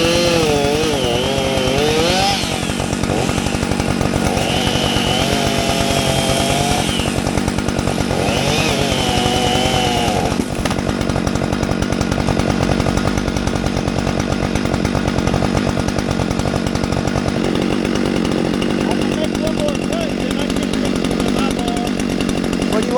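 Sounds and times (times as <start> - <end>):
chainsaw running at high revs: 0.0 - 22.9.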